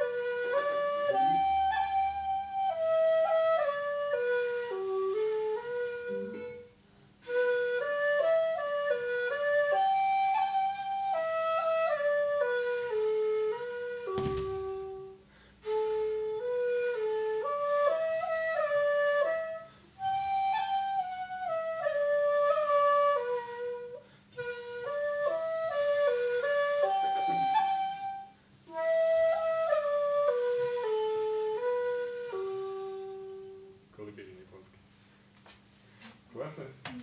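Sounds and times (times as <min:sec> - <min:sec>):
bamboo flute solo melody: 0:00.0 - 0:33.8.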